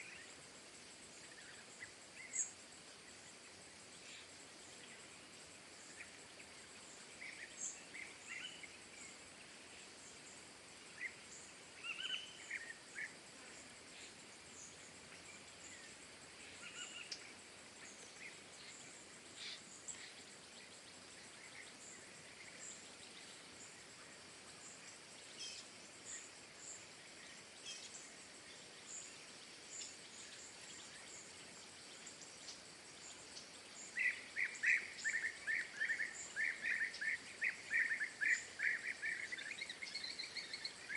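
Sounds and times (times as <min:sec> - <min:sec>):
outdoor ambience hiss: 0:00.0 - 0:40.9
small birds chirping: 0:00.0 - 0:40.9.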